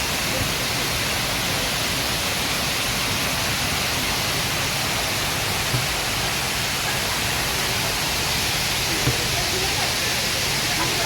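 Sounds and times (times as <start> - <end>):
water rushing down waterfall: 0.0 - 11.0.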